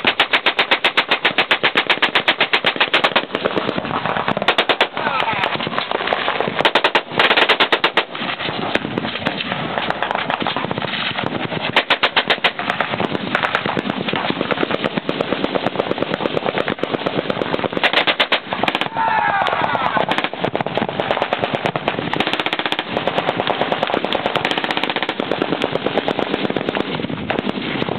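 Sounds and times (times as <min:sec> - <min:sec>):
machine guns firing: 0:00.0 - 0:19.0, 0:19.8 - 0:27.9.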